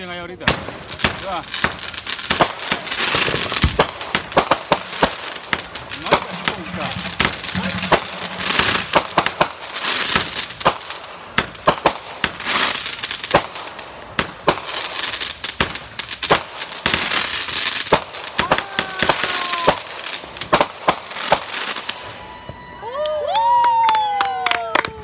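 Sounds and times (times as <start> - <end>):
fireworks crackling and hissing: 0.0 - 23.6
fireworks bangs: 0.4 - 22.2.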